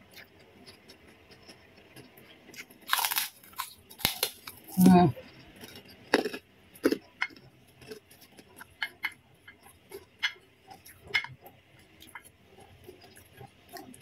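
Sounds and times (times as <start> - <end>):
chewing crispy crackers: 0.0 - 14.0.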